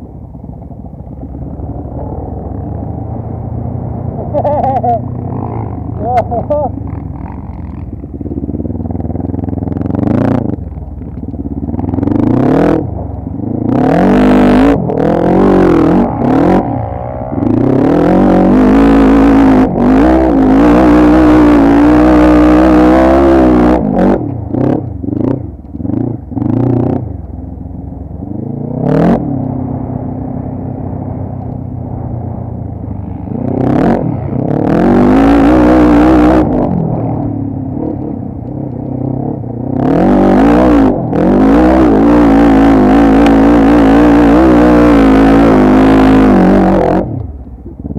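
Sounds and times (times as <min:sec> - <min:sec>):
quad bike engine revving: 0:01.1 - 0:27.3, 0:28.2 - 0:47.9.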